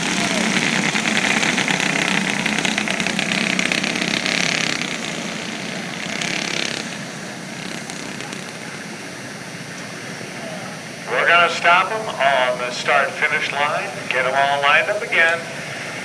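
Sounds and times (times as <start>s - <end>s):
racing kart engines: 0.0s - 16.0s.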